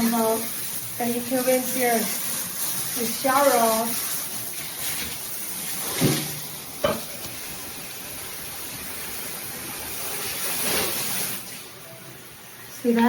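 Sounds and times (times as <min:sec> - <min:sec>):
shower spray hissing: 0:00.0 - 0:11.8.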